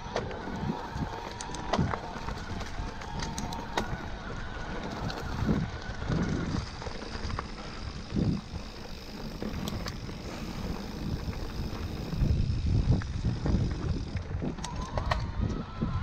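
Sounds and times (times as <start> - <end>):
bike clicks and rattles: 0.0 - 16.0
bike rolling on a trail: 0.0 - 16.0.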